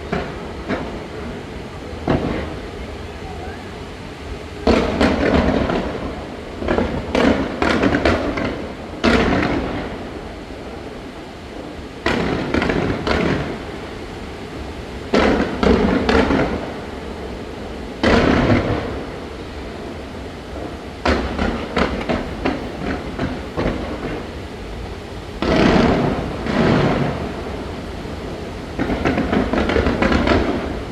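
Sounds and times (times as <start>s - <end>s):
fireworks bangs with rumbling echo: 0.0s - 30.9s.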